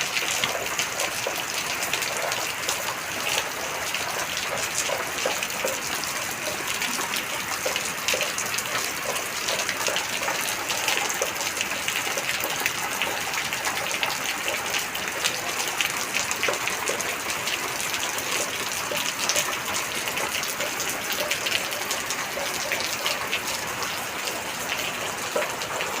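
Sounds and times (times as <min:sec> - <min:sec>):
heavy rain falling: 0:00.0 - 0:26.0
raindrops pattering close by: 0:00.0 - 0:26.0.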